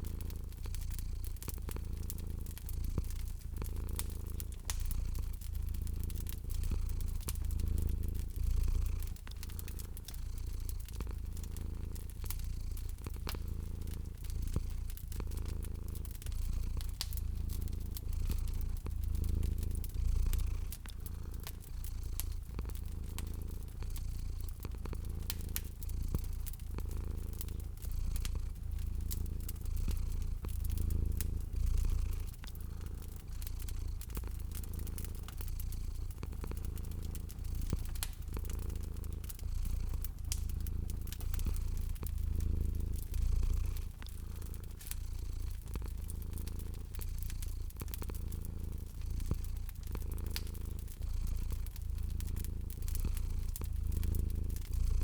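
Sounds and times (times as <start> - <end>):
cat purring: 0.0 - 55.0
wood fire crackling: 0.0 - 55.0.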